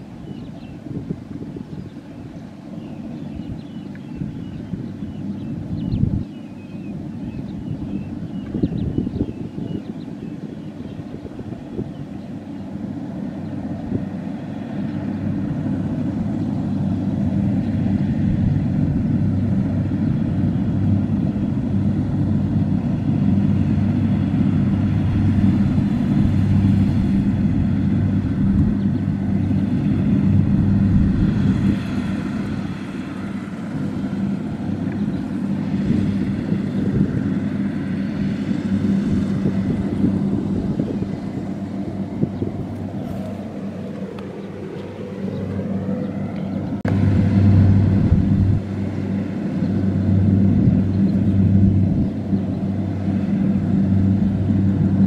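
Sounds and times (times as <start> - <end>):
combine harvester diesel drone: 0.0 - 55.0.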